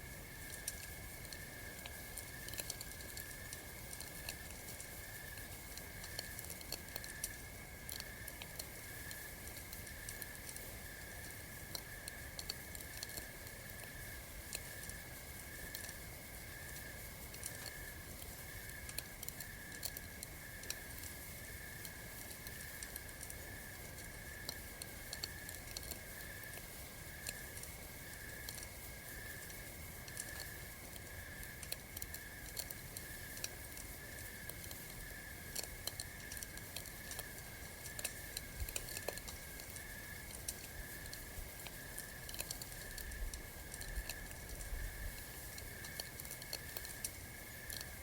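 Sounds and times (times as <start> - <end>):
campfire crackling: 0.0 - 48.0.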